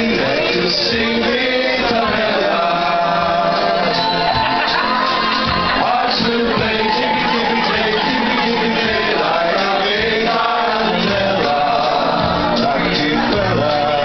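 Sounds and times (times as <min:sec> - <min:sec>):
loud music with singing: 0:00.0 - 0:14.0.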